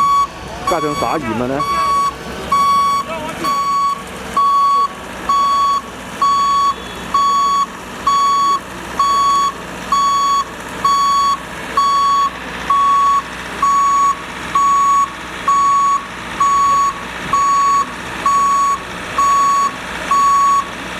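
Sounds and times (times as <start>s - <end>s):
truck back-up alarm beeping: 0.0s - 20.8s
street and engine noise: 0.0s - 20.9s.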